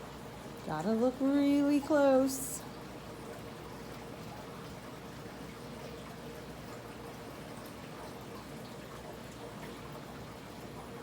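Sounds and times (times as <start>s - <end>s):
faint steady hum: 0.0s - 11.0s
water trickling through tank filter: 0.0s - 11.0s.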